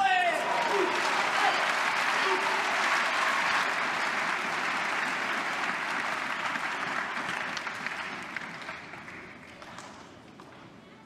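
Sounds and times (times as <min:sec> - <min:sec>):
arena crowd applauding: 0:00.0 - 0:10.6.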